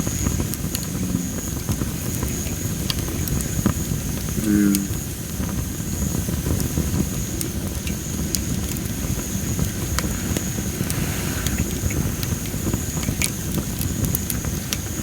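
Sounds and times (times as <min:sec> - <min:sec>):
campfire rumble: 0:00.0 - 0:15.0
fire crackles: 0:00.0 - 0:15.0.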